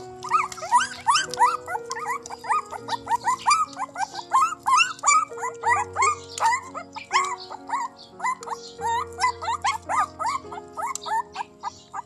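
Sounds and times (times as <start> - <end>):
background music with held notes: 0.0 - 12.0
puppies whimpering and squealing: 0.0 - 12.0.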